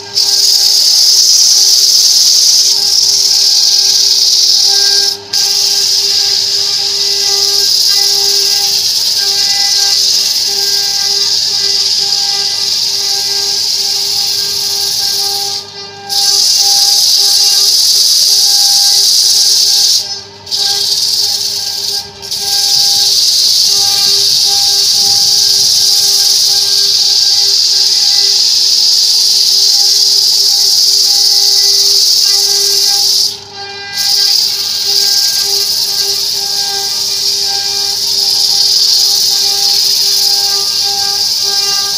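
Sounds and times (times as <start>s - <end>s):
lathe tool hissing on wood: 0.0s - 41.9s
motor hum: 0.0s - 41.9s.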